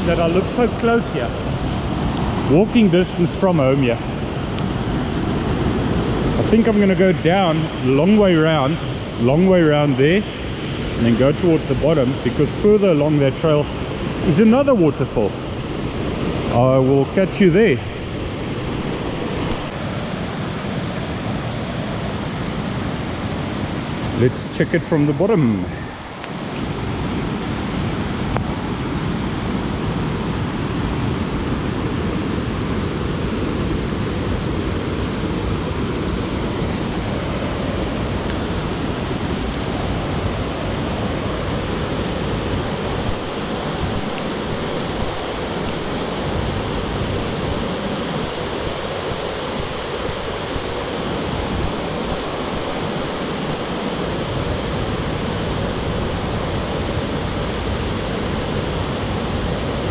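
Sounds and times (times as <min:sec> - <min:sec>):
rushing waterfall and stream: 0:00.0 - 0:59.9.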